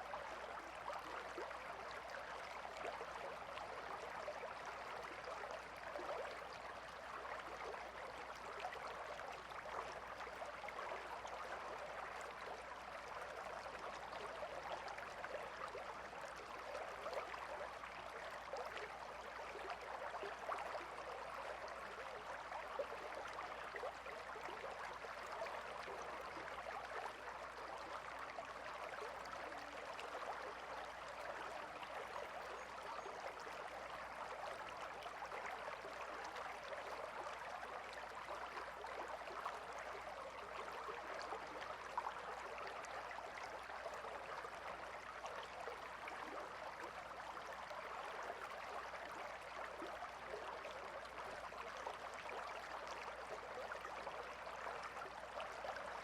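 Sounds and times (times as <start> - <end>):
river water babbling: 0.1 - 56.0.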